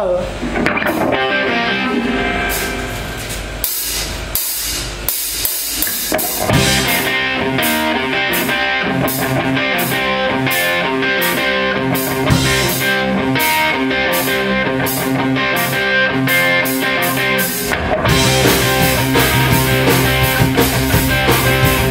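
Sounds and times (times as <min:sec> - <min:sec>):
electric guitar: 0:00.0 - 0:03.6, 0:05.8 - 0:21.9
rock band playing live: 0:00.5 - 0:03.3, 0:05.8 - 0:21.9.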